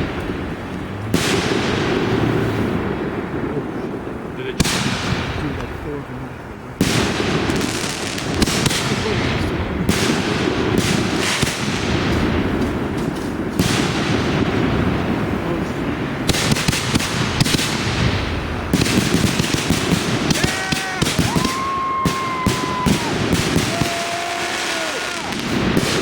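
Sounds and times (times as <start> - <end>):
firework barrage crackling: 0.0 - 26.0.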